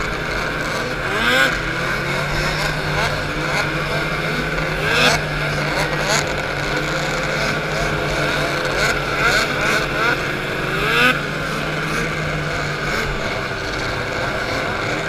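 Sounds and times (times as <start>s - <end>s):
other snowmobile engines: 0.0s - 15.0s
snowmobile engine running hard: 0.0s - 15.0s.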